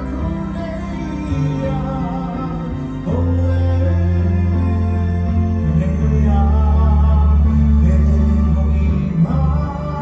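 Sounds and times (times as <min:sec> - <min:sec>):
person singing: 0:00.0 - 0:10.0
steady bass: 0:00.0 - 0:10.0.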